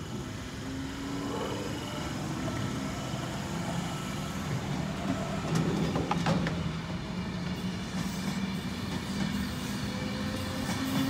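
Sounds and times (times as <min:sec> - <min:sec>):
train rolling past: 0:00.0 - 0:11.0.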